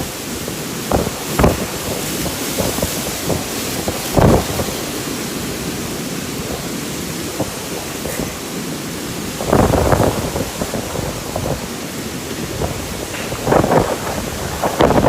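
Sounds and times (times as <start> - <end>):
rain hissing: 0.0 - 15.0
wind gusts thumping: 0.0 - 15.0.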